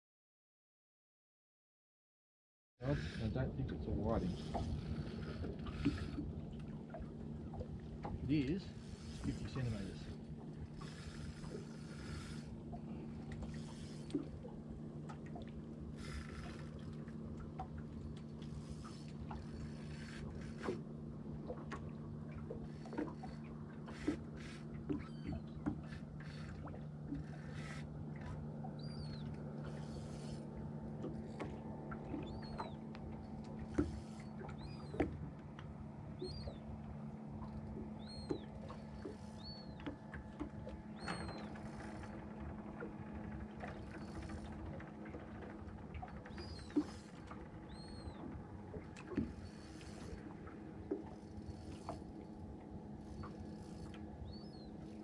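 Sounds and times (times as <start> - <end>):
steady low hum: 2.8 - 55.0.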